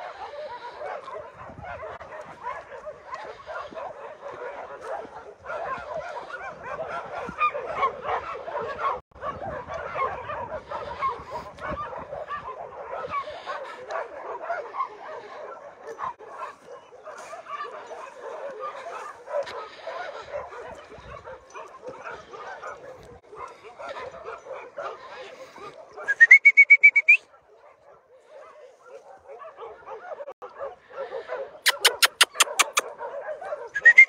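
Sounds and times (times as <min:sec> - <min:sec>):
many dogs barking and yelping: 0:00.0 - 0:34.0.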